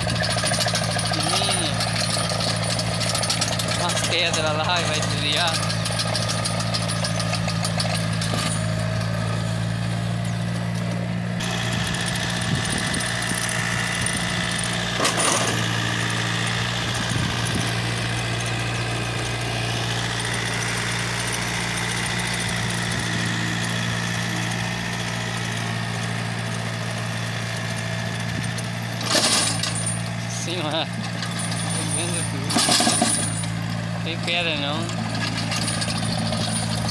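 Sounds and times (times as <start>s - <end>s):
tractor diesel engine under load: 0.0s - 36.9s.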